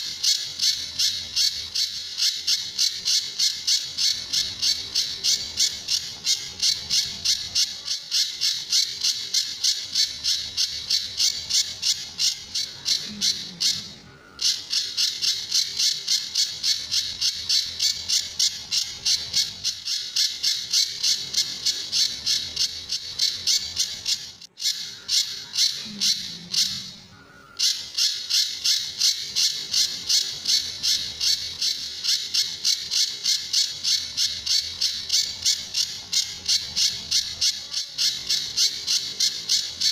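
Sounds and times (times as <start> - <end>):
bird calling with sharp high notes: 0.0 - 39.9.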